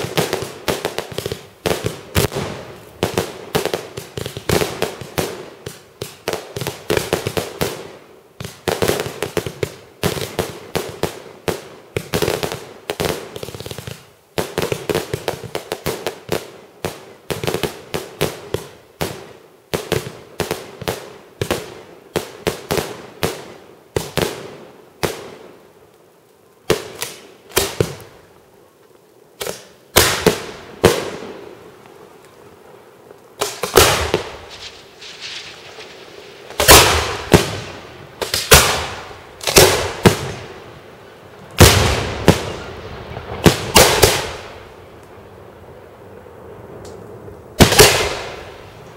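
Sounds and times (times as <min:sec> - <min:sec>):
fireworks bangs echoing: 0:00.0 - 0:25.6, 0:29.4 - 0:31.7, 0:33.4 - 0:44.9, 0:47.6 - 0:48.9
fireworks crackling: 0:00.0 - 0:48.9.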